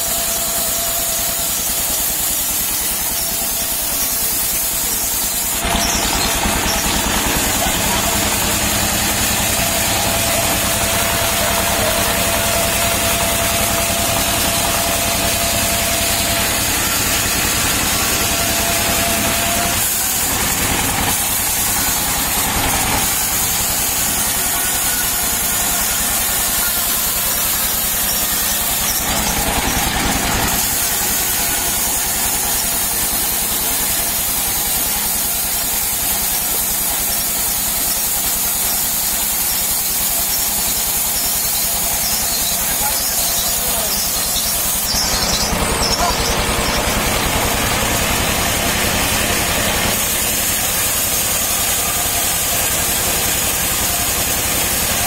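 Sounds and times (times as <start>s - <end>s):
band saw cutting wood: 0.0s - 55.0s
diesel engine chugging: 0.0s - 55.0s
thin steady whine: 0.0s - 55.0s.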